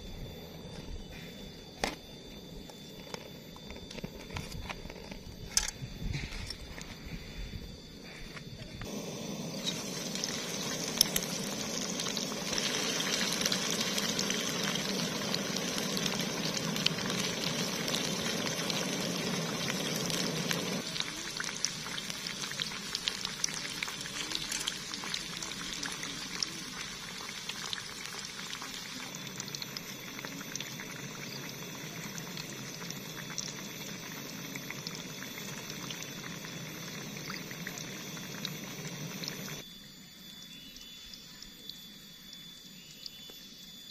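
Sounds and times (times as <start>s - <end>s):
battered food deep-frying in oil: 7.8s - 43.9s.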